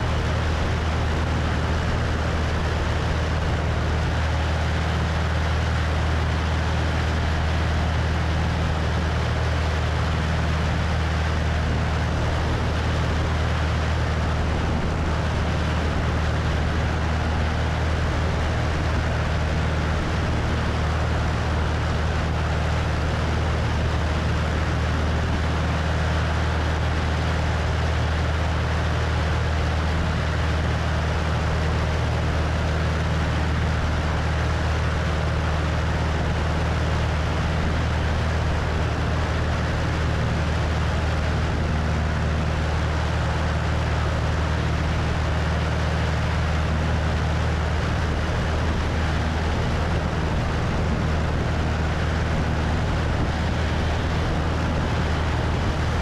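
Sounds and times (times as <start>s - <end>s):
propeller plane engine droning: 0.0s - 56.0s
wind rushing over microphone: 0.0s - 56.0s.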